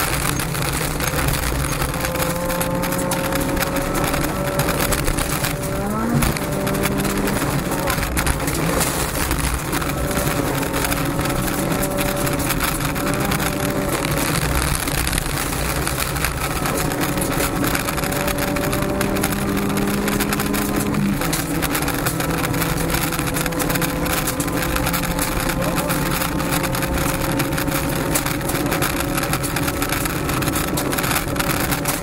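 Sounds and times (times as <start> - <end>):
car engine at high revs: 0.0 - 32.0
gravel hissing and rattling: 0.0 - 32.0.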